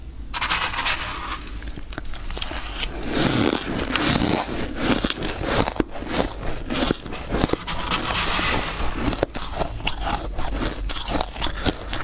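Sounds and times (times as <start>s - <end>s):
frost being chewed crunching: 1.5s - 12.0s.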